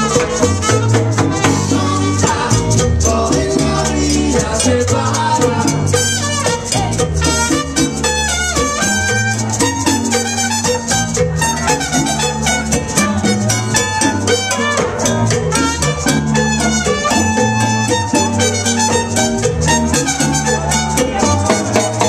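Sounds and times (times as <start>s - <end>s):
bass line: 0.0s - 22.0s
congas and bongos: 0.0s - 22.0s
salsa band playing: 0.0s - 22.0s.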